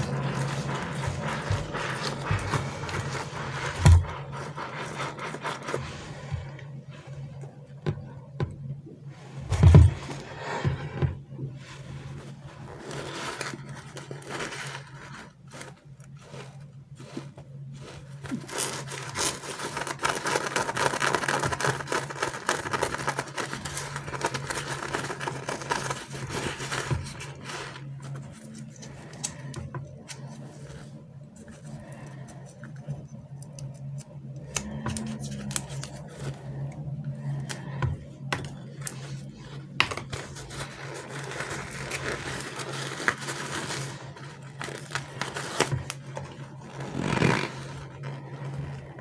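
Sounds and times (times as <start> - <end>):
plastic packaging crinkling: 0.0 - 5.8, 12.3 - 49.0
low steady hum: 0.0 - 49.0.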